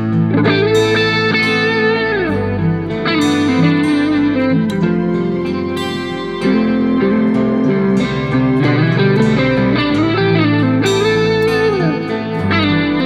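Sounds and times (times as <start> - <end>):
guitar with bending notes: 0.0 - 13.0
low bass line: 0.0 - 13.0.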